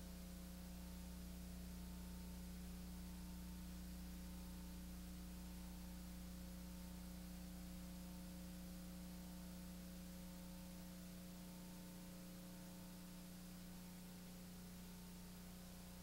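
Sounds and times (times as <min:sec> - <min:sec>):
faint mains hum: 0:00.0 - 0:16.0
tape hiss: 0:00.0 - 0:16.0.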